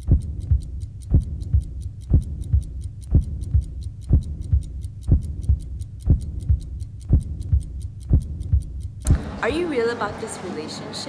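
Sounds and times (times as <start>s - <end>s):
fast light ticking: 0.0s - 9.2s.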